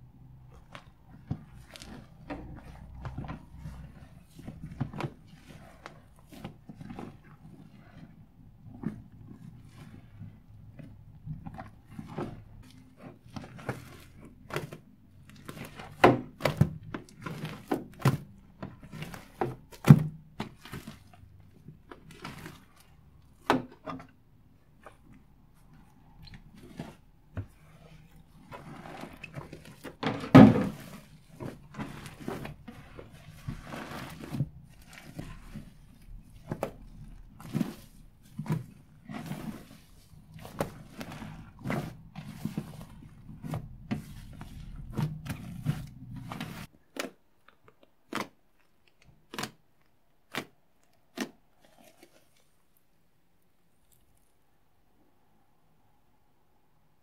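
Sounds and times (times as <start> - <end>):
slime squelching and crackling: 0.0 - 52.9.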